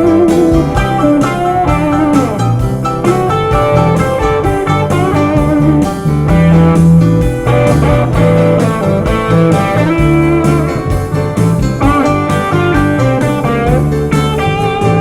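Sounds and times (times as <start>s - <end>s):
blues guitar music: 0.0s - 15.0s.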